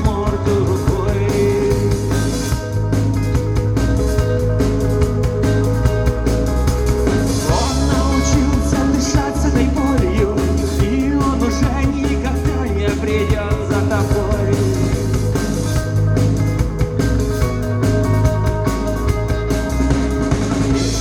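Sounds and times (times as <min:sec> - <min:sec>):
lead guitar line bending: 0:00.0 - 0:21.0
live rock band playing: 0:00.0 - 0:21.0.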